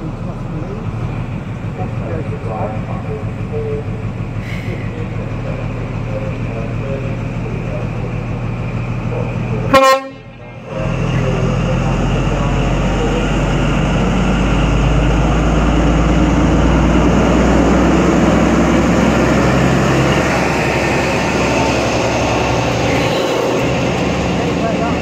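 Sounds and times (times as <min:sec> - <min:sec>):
train wheels rushing on rails: 0:00.0 - 0:09.8, 0:10.5 - 0:25.0
low traction hum: 0:00.0 - 0:25.0.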